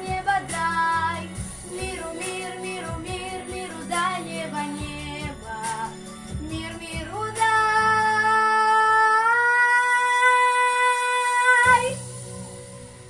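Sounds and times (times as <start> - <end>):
backing music: 0.0 - 13.0.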